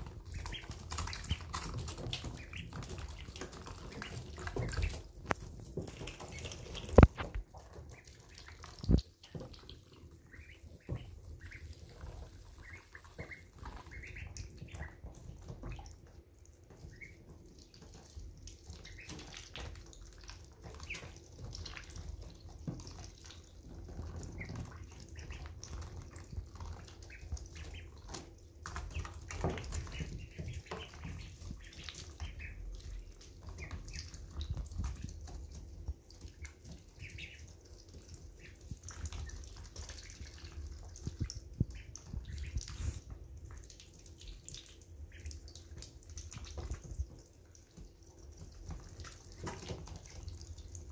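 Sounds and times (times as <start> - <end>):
ducklings dabbling in water: 0.0 - 50.9
small splashes and drips: 0.0 - 50.9.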